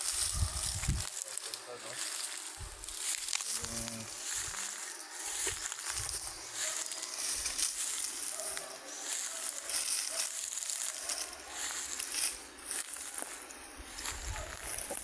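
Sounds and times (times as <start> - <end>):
footsteps through dry leaves: 0.0 - 15.0.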